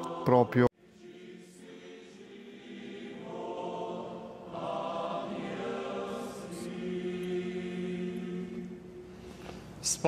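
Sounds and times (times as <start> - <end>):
choir chanting: 0.0 - 9.3.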